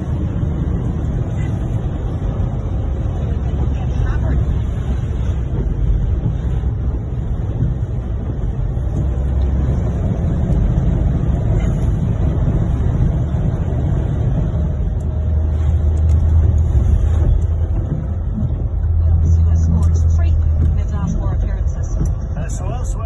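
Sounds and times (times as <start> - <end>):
low engine rumble: 0.0 - 23.0
water rushing: 0.0 - 23.0.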